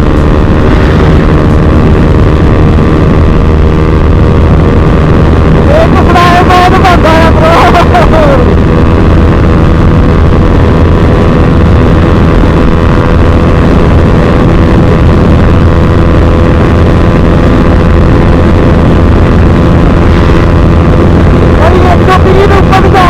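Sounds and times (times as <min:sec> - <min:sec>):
motorcycle engine running: 0:00.0 - 0:23.0
wind rush on microphone: 0:00.0 - 0:23.0.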